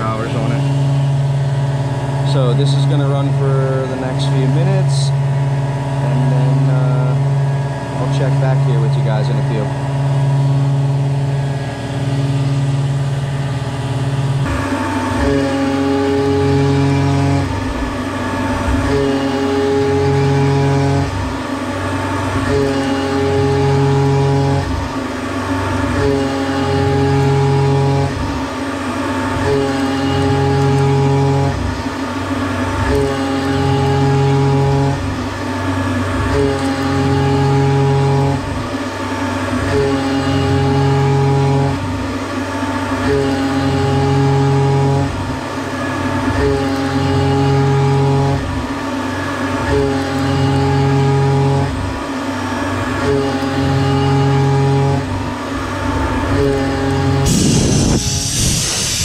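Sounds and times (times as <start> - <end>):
milling machine cutting whine: 0.0 - 59.0.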